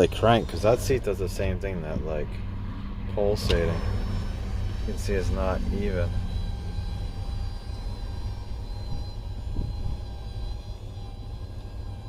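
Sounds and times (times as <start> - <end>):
electric seat motors whirring: 0.0 - 12.0
low steady hum: 0.0 - 12.0.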